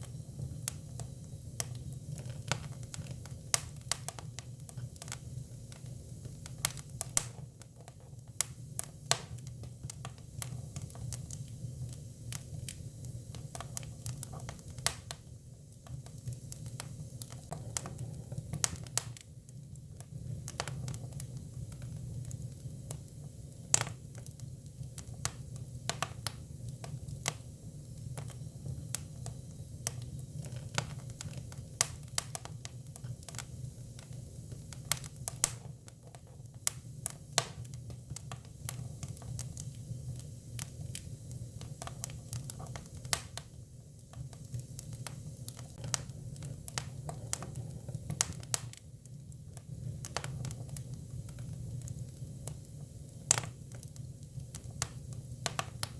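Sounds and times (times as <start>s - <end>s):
firewood crackling and popping: 0.0s - 55.9s
low fire rumble: 0.0s - 55.9s.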